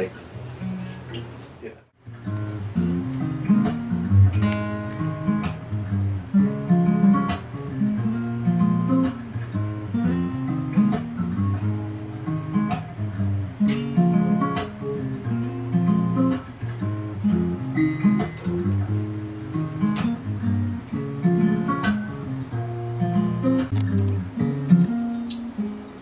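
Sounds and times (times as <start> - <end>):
acoustic guitar chords: 2.0 - 26.0.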